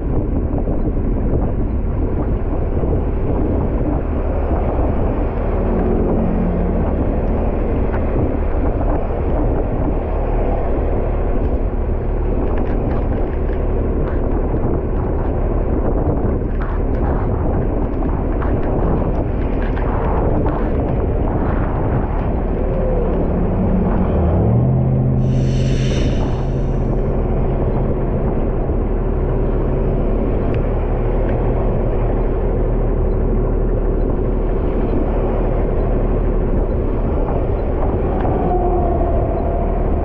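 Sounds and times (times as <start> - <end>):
diesel engine idling rumble: 0.0 - 40.0
wind buffeting camera: 0.0 - 40.0.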